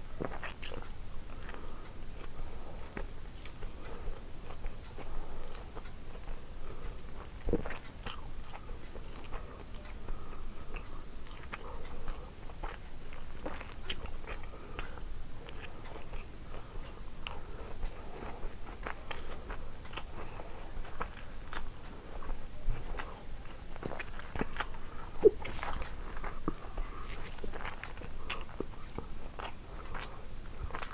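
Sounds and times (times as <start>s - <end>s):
person chewing food: 0.1s - 30.9s
small food crunches: 0.2s - 3.7s, 7.4s - 10.0s, 10.7s - 30.9s.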